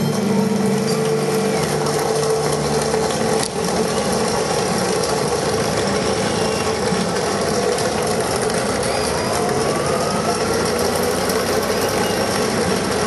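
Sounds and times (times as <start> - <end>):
vehicle rattling with engine noise: 0.0 - 13.0.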